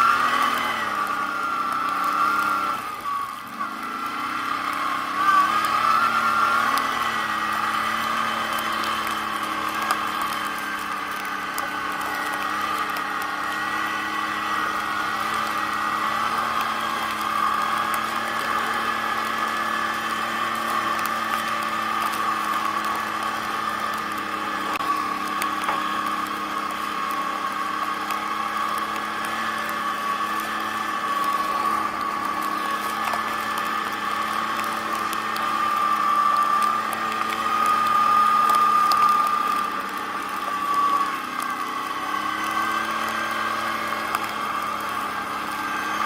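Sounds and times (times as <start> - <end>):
atv engine running: 0.0 - 46.0.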